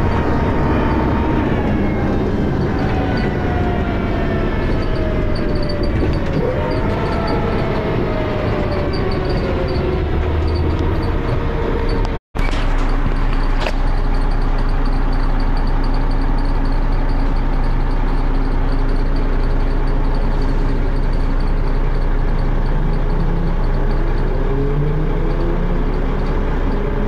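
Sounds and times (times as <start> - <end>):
second tone: 0.0 - 26.8
bus engine running: 0.0 - 27.0
gearbox whine falling in pitch: 0.0 - 27.0.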